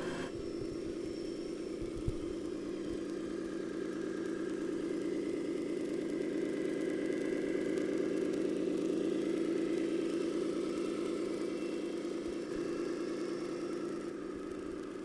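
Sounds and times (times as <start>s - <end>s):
model vehicle engine running: 0.0s - 15.0s.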